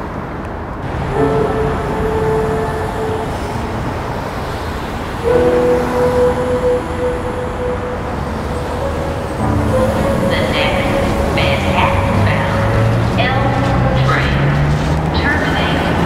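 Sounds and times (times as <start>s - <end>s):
city street traffic: 0.0s - 16.0s
car horns honking: 0.8s - 16.0s.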